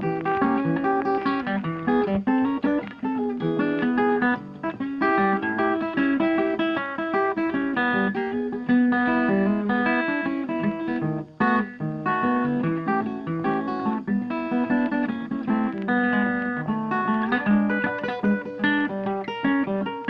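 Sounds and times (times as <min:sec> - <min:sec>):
plucked guitar melody: 0:00.0 - 0:20.0.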